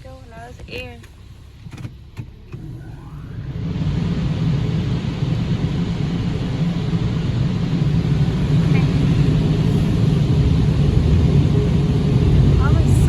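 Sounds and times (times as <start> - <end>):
car wash air dryer blowers: 0.0 - 13.0.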